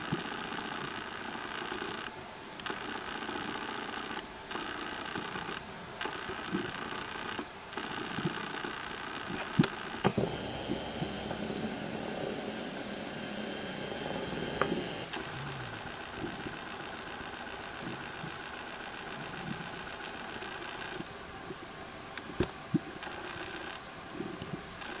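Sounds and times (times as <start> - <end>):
underwater mechanical hum: 0.0 - 25.0.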